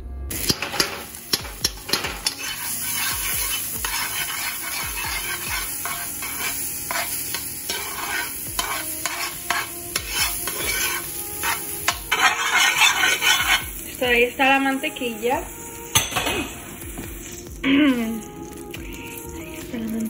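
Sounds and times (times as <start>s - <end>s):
butter sizzling in a pan: 0.3s - 20.0s
metal spoon scraping a pan: 0.4s - 15.2s, 15.8s - 17.4s.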